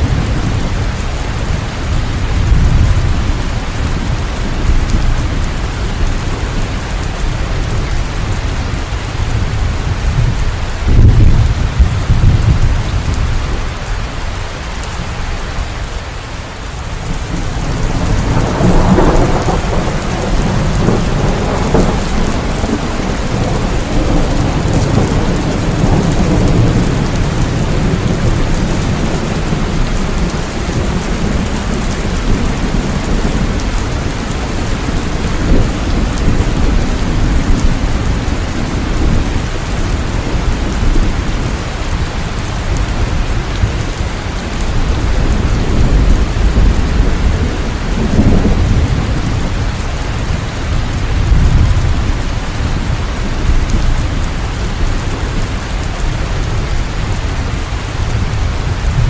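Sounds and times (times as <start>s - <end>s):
low thunder rumbling: 0.0s - 16.0s, 16.8s - 59.0s
heavy rain falling: 0.0s - 59.0s.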